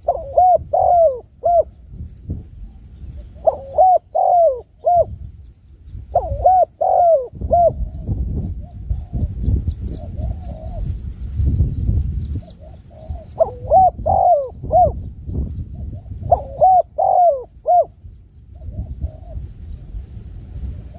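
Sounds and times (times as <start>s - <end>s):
dove cooing: 0.0s - 5.3s, 6.0s - 11.0s, 12.4s - 19.9s
small birds chirping: 0.0s - 20.9s.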